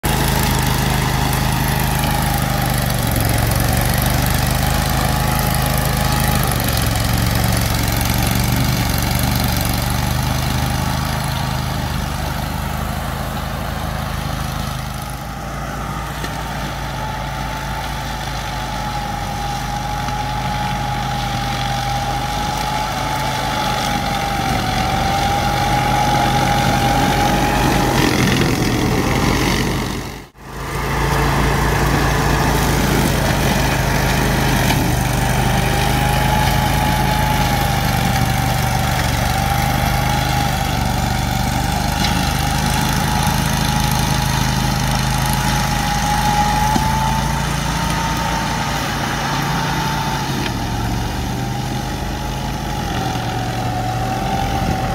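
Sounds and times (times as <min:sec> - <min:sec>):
mower engine cutting grass: 0:00.0 - 0:54.9.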